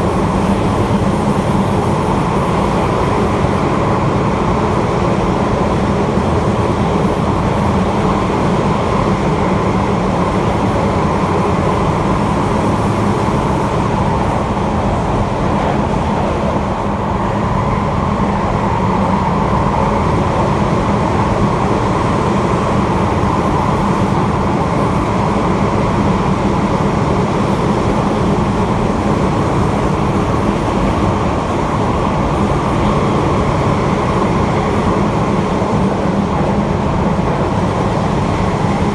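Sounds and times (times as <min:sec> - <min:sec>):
subway train running rumble: 0:00.0 - 0:38.9.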